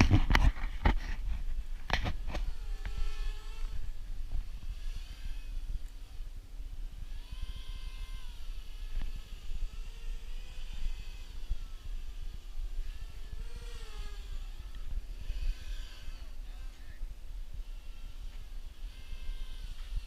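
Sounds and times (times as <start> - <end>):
quadcopter motors whining: 1.8 - 20.0.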